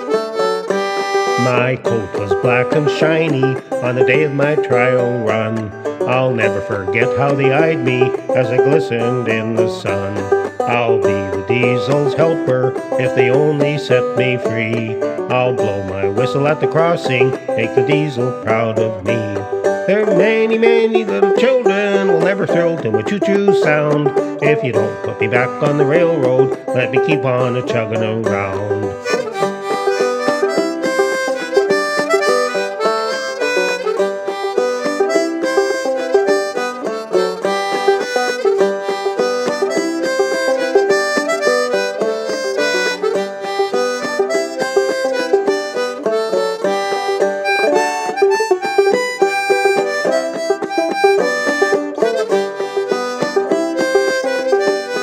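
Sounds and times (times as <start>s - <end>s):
harmonica playing melody: 0.0s - 55.0s
plucked banjo: 0.0s - 55.0s.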